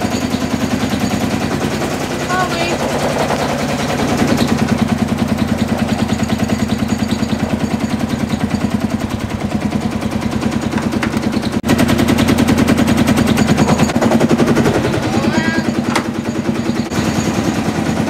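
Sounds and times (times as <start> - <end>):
tractor engine popping: 0.0 - 18.0.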